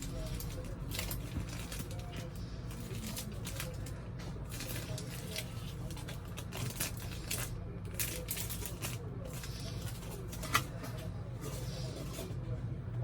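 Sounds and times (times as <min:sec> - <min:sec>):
packaging clicks and rustles: 0:00.0 - 0:12.4.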